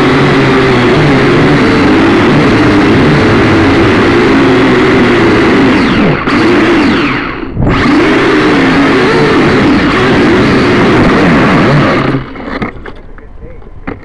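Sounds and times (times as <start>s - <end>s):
quadcopter motors buzzing: 0.0s - 14.0s.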